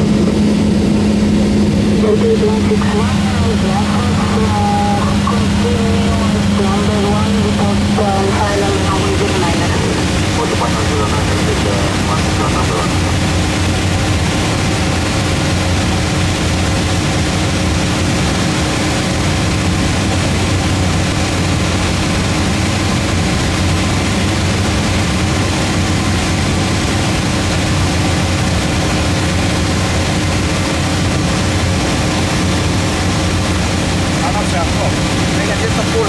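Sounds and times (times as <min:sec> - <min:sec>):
propeller plane engine droning: 0:00.0 - 0:36.0.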